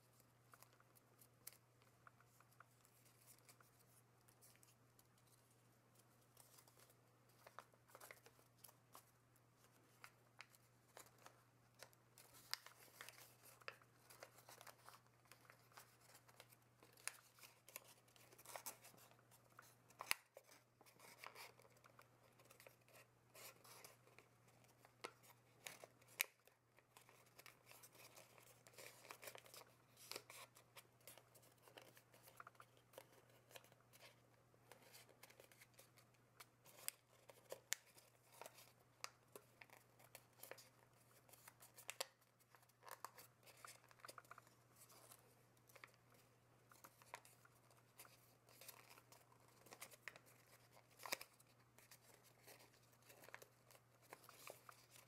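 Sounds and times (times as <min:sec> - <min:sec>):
paper crinkling as folded: 0:00.0 - 0:55.0.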